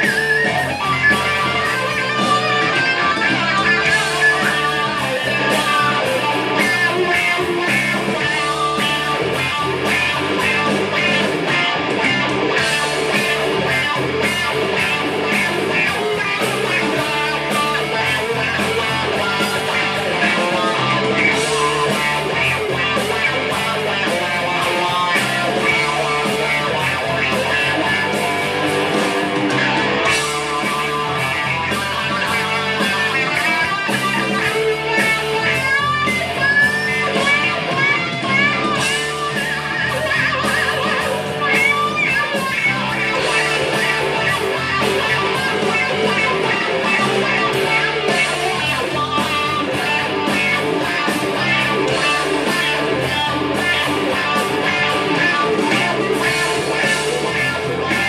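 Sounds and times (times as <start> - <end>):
electric guitar through amplifier: 0.0 - 58.0.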